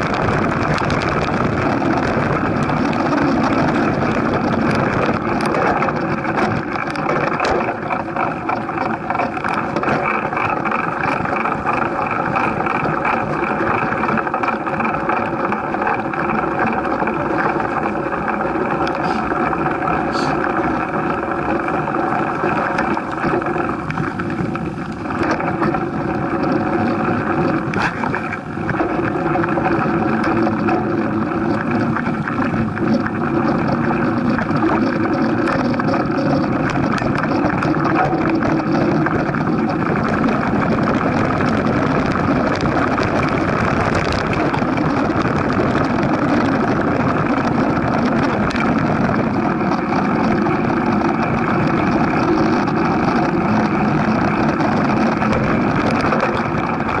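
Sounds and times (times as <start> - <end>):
bike tyre and frame rattle: 0.0 - 57.0
wind on microphone: 0.0 - 57.0.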